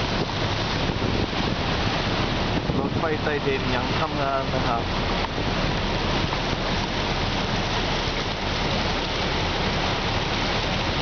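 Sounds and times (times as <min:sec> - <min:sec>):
floodwater rushing and splashing: 0:00.0 - 0:11.0.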